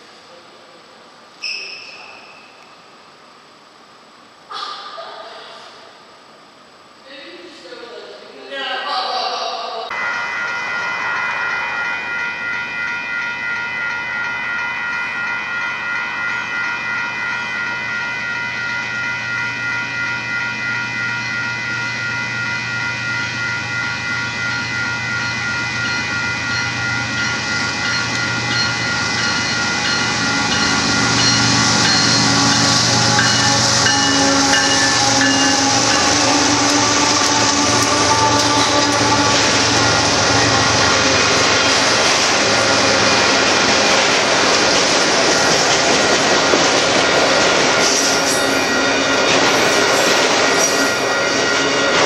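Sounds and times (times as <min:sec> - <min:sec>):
crossing warning bell ringing: 0:09.9 - 0:52.0
train engine rumble: 0:09.9 - 0:52.0
train wheel noise: 0:09.9 - 0:52.0.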